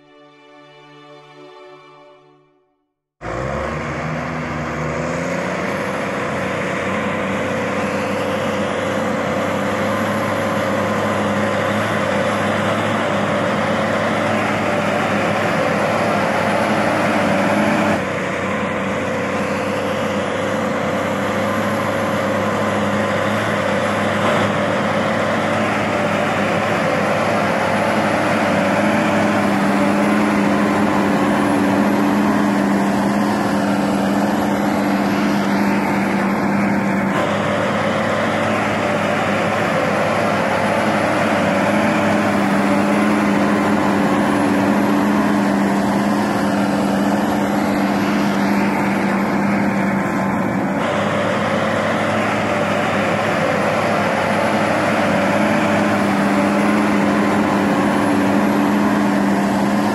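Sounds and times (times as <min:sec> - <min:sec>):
tractor diesel engine under load: 0:03.0 - 0:59.9.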